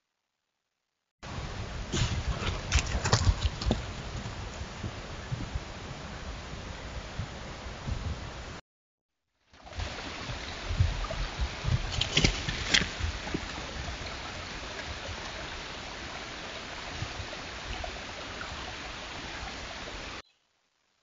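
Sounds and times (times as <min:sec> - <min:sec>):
recording hiss: 0:01.2 - 0:08.6, 0:09.4 - 0:21.0.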